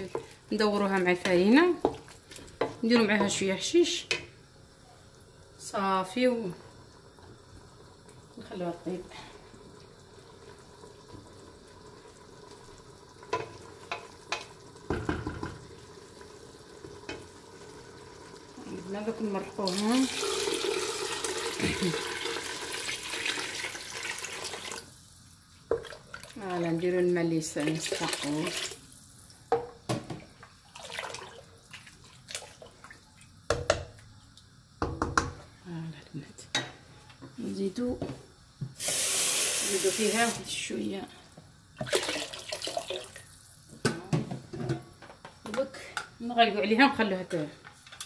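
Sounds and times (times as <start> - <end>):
food sizzling in a pot: 0.0 - 48.0.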